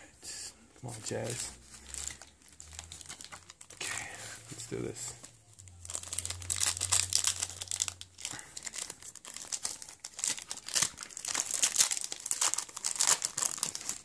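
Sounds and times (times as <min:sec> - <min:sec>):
foil wrapper crinkling and tearing: 0:01.0 - 0:14.0.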